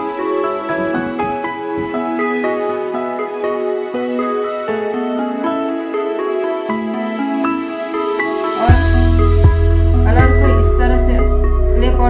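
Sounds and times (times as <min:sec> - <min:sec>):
slow instrumental melody: 0:00.0 - 0:12.0.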